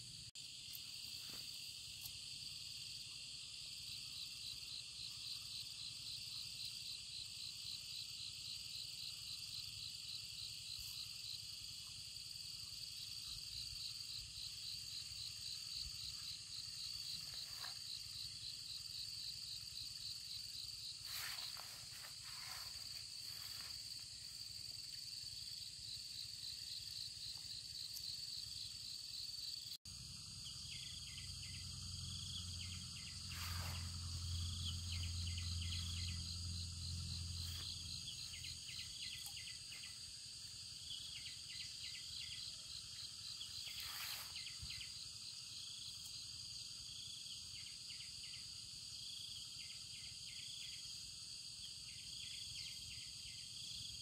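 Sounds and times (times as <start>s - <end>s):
insect pulsing chirp: 0.0s - 54.0s
insects trilling: 0.0s - 54.0s.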